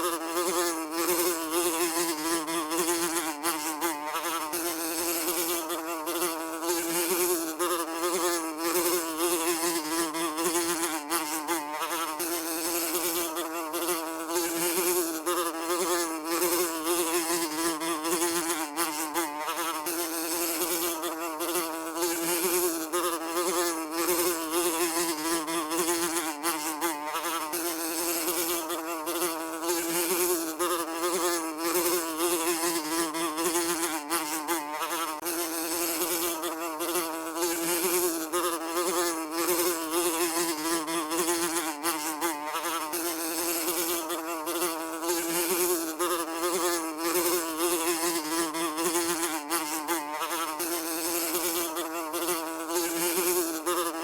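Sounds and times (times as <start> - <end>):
housefly buzzing: 0.0 - 54.0.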